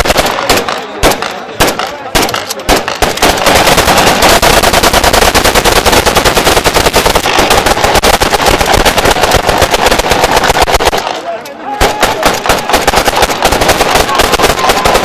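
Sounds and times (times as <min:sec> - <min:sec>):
automatic gunfire: 0:00.0 - 0:15.0.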